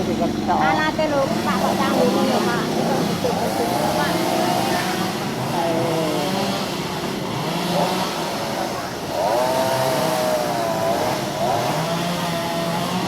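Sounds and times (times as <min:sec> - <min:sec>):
small petrol engine revving: 0:00.0 - 0:13.0.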